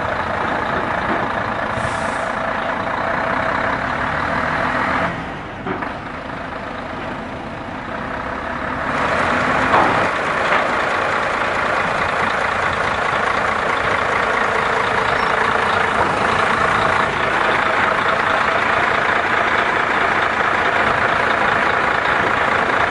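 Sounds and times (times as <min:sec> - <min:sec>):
suction truck mechanical rushing: 0:00.0 - 0:22.9.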